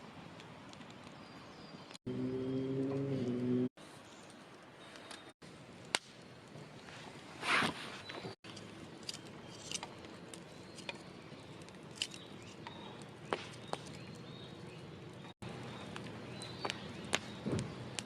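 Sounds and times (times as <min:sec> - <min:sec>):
campfire crackling: 0:00.0 - 0:02.0, 0:03.8 - 0:18.0.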